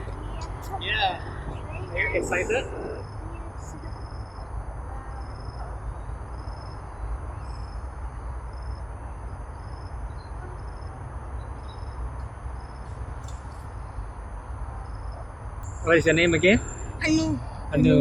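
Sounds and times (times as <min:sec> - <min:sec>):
crickets chirping: 0:00.0 - 0:18.0
high insect trill: 0:00.0 - 0:18.0.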